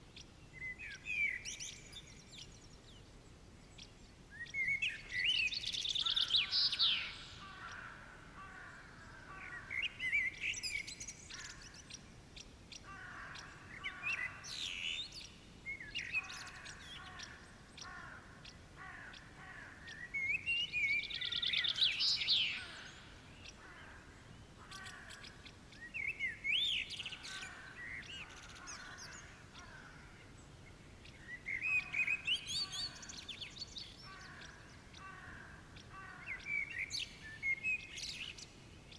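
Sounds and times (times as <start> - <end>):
birds singing and calling: 0.2 - 38.9.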